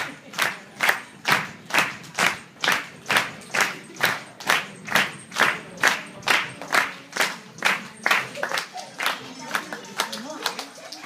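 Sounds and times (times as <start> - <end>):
crowd clapping in unison: 0.0 - 11.0.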